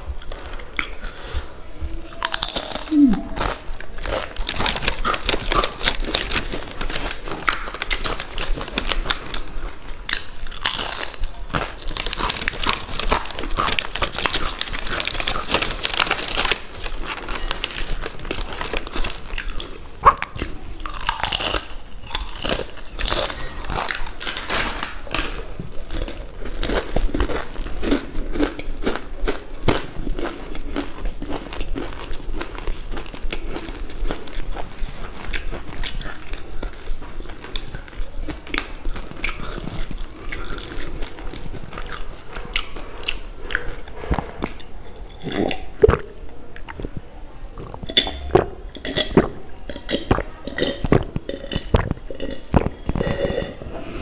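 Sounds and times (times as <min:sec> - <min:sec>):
crunching and chewing chips: 0:00.0 - 0:54.0.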